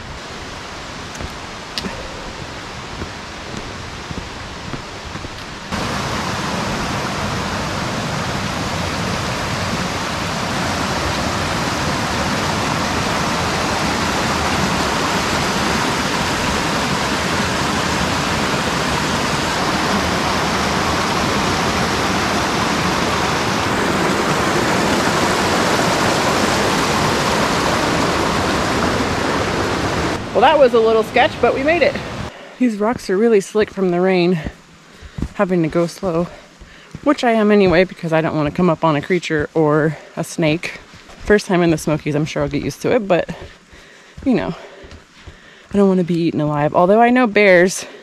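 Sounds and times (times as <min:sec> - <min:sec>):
stream rushing over boulders: 0:00.0 - 0:46.7.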